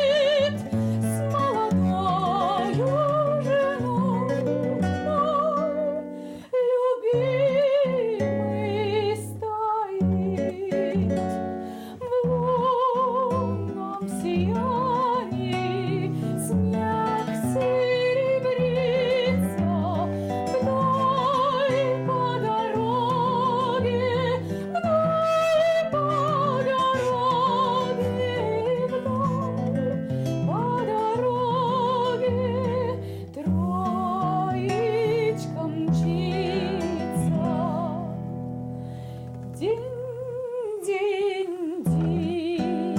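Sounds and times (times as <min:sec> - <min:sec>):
woman singing with vibrato: 0:00.0 - 0:38.5, 0:39.4 - 0:42.9
acoustic guitar: 0:00.0 - 0:42.9.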